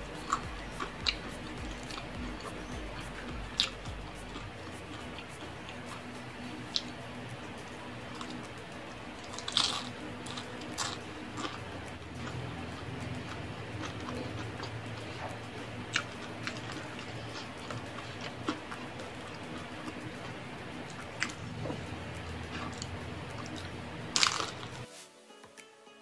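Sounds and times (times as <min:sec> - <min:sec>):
person crunching and chewing snacks: 0:00.0 - 0:24.9
steady low hum: 0:00.0 - 0:24.9.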